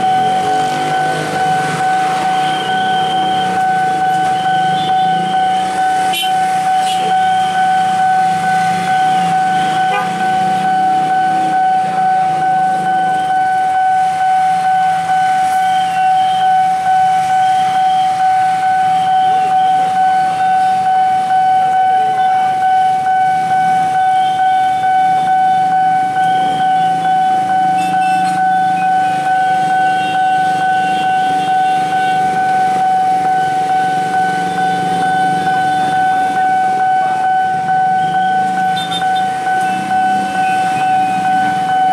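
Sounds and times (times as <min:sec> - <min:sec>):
crossing alarm steady high tone: 0:00.0 - 0:41.9
engines idling: 0:00.0 - 0:41.9.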